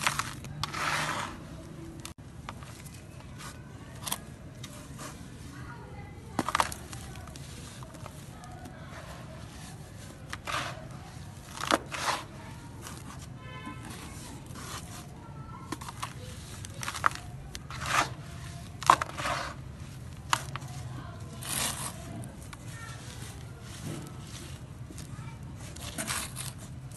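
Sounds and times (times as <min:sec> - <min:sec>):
crumbling cement lumps crunching: 0:00.0 - 0:26.9.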